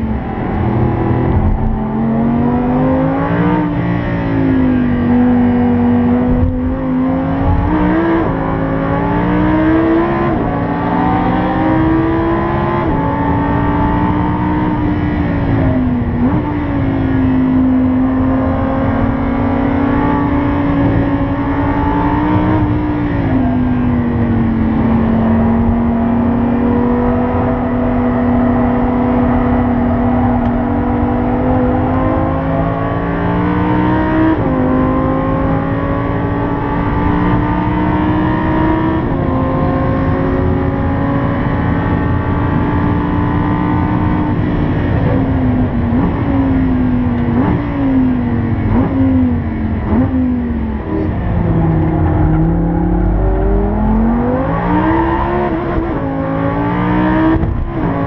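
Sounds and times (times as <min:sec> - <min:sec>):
sports car engine with gear changes: 0:00.0 - 0:58.0.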